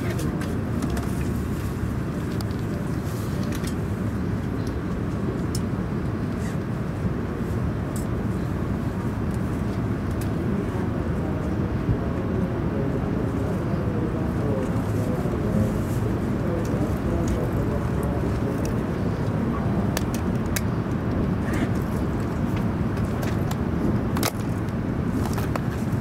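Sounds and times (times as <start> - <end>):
train interior rumble and hum: 0.0 - 26.0.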